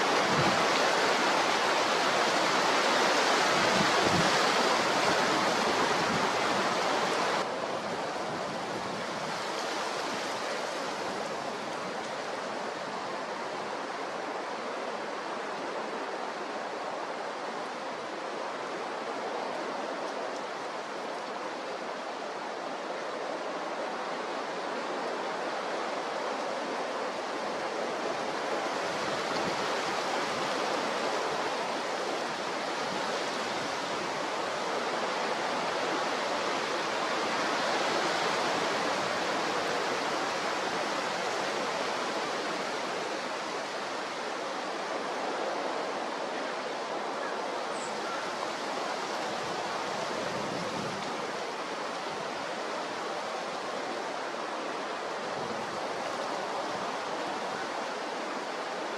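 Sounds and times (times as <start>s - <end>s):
rough sea: 0.0s - 58.9s
strong wind: 0.0s - 58.9s.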